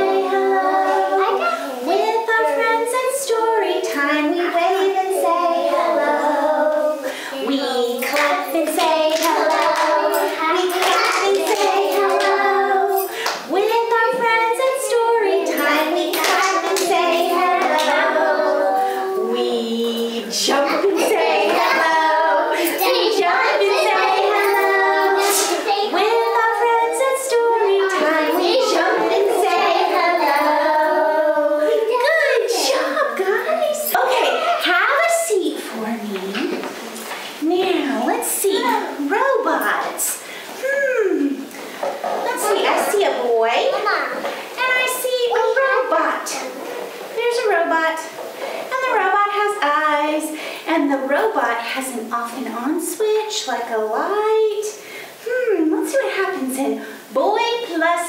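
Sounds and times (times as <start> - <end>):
woman and children singing: 0.0 - 36.7, 37.4 - 43.5, 44.5 - 58.0.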